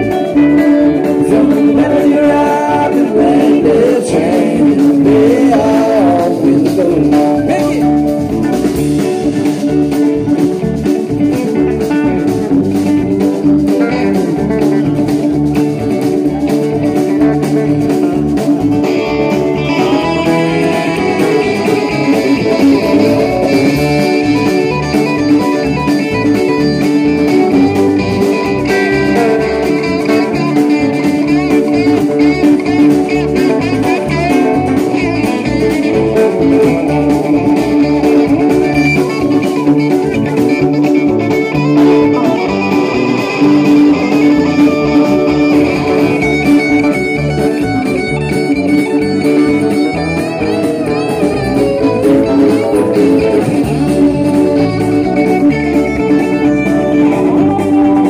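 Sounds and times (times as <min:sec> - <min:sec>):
live rock band playing: 0:00.0 - 0:58.0
sustained electric guitar notes: 0:00.0 - 0:58.0.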